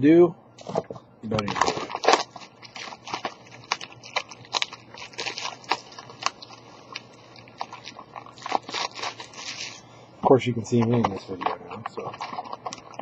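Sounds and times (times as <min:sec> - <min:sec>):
plastic packaging crinkling: 0:01.3 - 0:10.0, 0:10.6 - 0:13.0.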